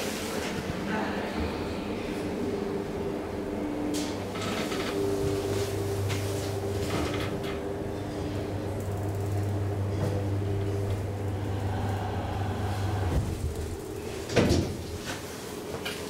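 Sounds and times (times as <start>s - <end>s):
elevator motor hum: 0.2s - 16.0s.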